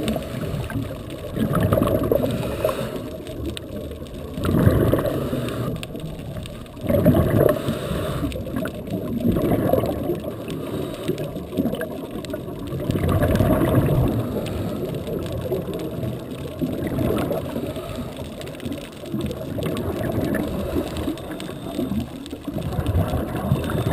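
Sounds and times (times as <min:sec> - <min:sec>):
underwater bubbling and gurgling: 0:00.0 - 0:23.9.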